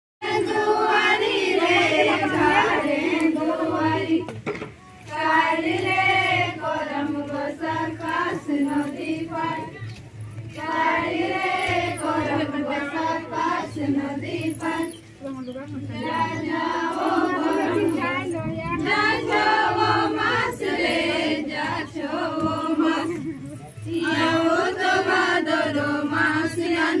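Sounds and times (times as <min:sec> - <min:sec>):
women singing in unison: 0:00.2 - 0:04.4, 0:05.0 - 0:09.8, 0:10.5 - 0:15.1, 0:15.9 - 0:27.0.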